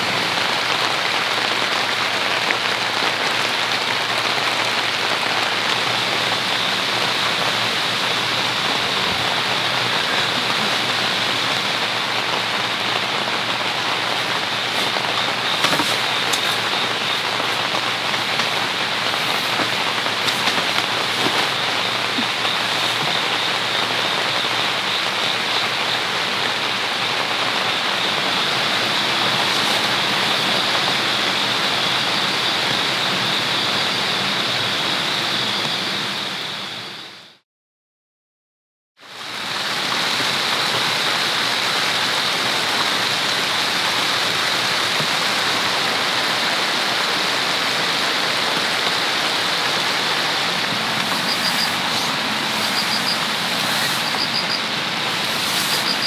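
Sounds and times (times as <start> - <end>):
heavy rain on a tent: 0.0 - 37.4, 39.0 - 56.0.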